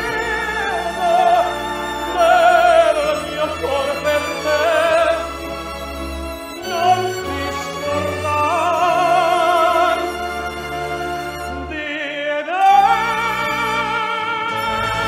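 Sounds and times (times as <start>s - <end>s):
operatic tenor singing: 0.0s - 15.0s
orchestral accompaniment: 0.0s - 15.0s.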